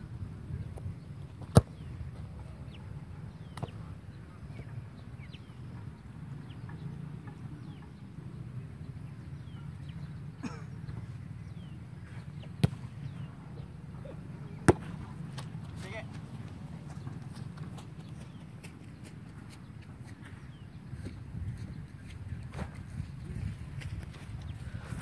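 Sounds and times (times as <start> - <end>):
small birds chirping: 0.5 - 25.0.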